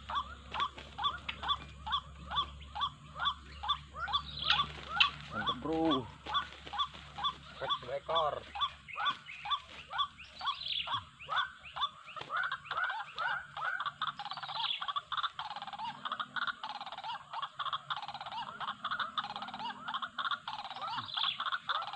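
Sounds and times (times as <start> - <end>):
waterhens calling: 0.0 - 21.9.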